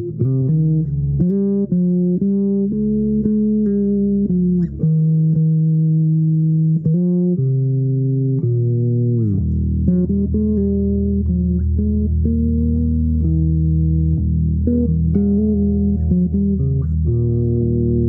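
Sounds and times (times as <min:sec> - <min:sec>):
plucked string instrument melody: 0:00.0 - 0:18.0.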